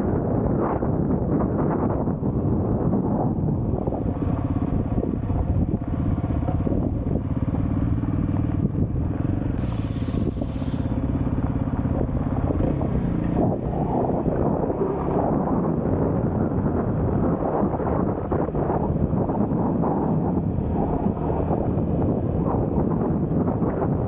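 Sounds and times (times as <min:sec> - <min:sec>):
tyre and road rumble: 0:00.0 - 0:24.0
vehicle engine running: 0:01.8 - 0:24.0.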